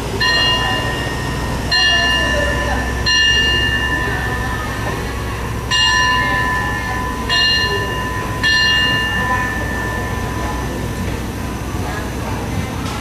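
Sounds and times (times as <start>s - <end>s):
bell ringing: 0.0s - 12.2s
low rumble of standing train: 0.0s - 13.0s.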